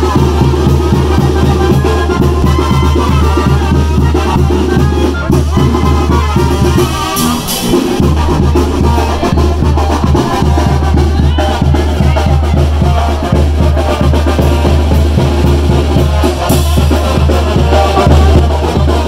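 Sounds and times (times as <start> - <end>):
upbeat latin music: 0.0 - 19.0.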